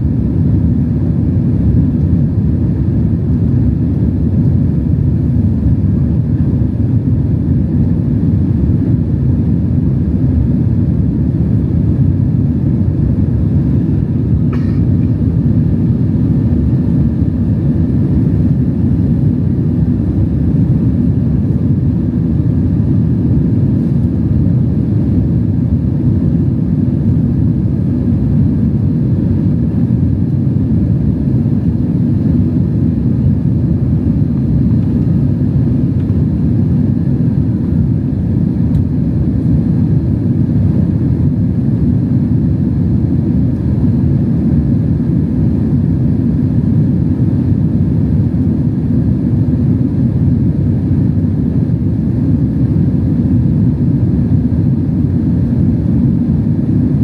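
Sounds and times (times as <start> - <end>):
airplane engines and airflow in cabin: 0.0 - 57.0.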